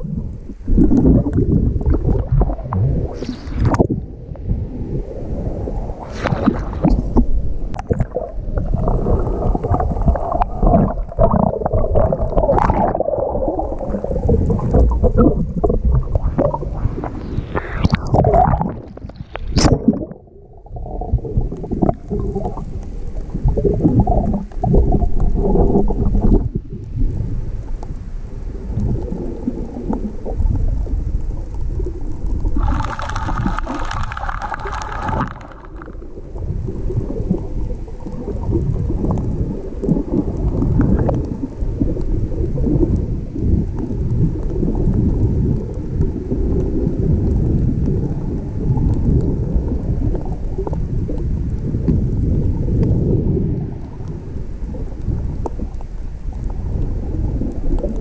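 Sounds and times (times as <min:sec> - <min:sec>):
sea water churning and gurgling: 0:00.0 - 0:58.0.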